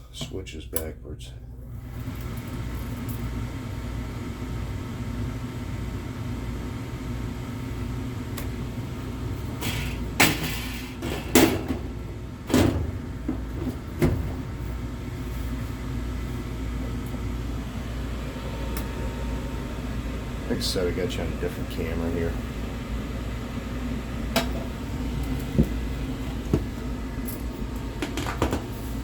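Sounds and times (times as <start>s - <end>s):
gas furnace humming: 0.0s - 29.0s.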